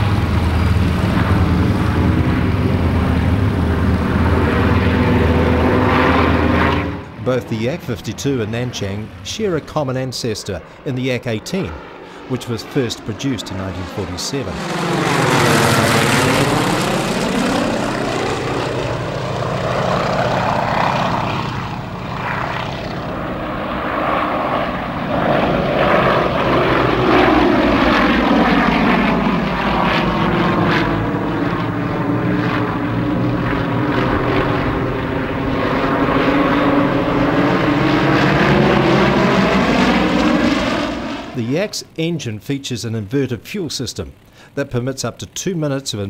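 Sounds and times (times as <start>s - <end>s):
propeller aircraft engines: 0.0s - 46.0s.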